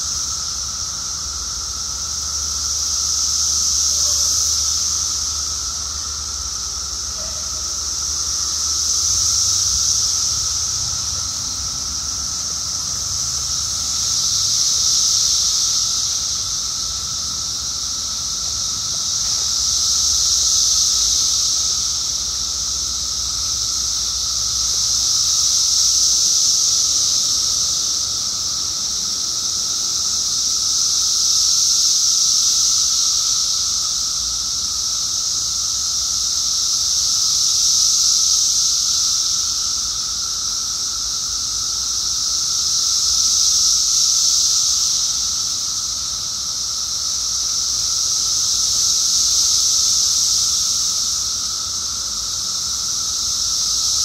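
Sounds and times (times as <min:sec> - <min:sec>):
cicadas high-pitched drone: 0:00.0 - 0:54.0
lower cicada hum: 0:00.0 - 0:54.0.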